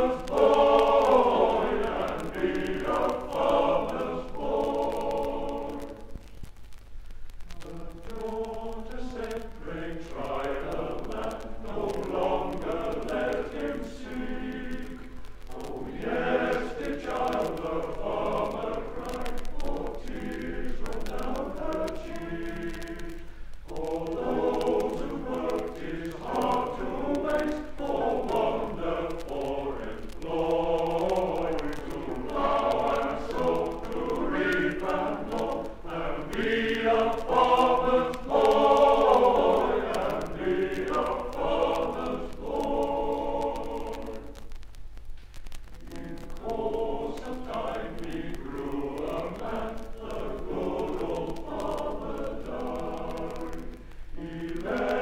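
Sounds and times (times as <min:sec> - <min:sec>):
male voice choir singing: 0:00.0 - 0:06.1, 0:07.5 - 0:44.4, 0:45.8 - 0:55.0.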